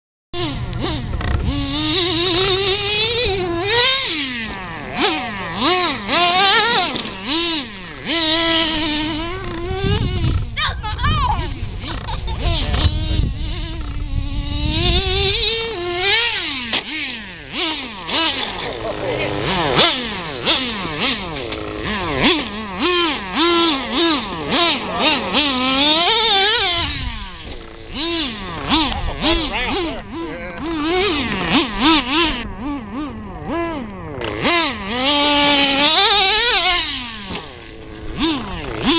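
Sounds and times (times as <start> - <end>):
rc car motor whining: 0.4 - 38.9.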